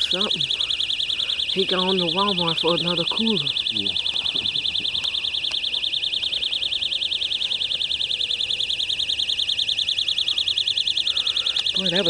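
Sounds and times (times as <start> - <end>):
warbling electronic alarm: 0.0 - 12.0.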